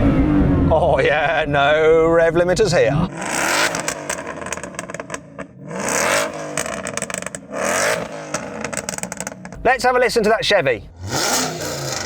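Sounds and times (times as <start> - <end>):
car engine revving: 0.0 - 10.2, 10.8 - 12.0.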